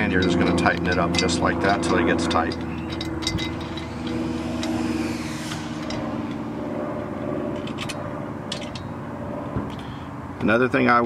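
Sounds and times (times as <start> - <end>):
engine running steadily: 0.0 - 10.6.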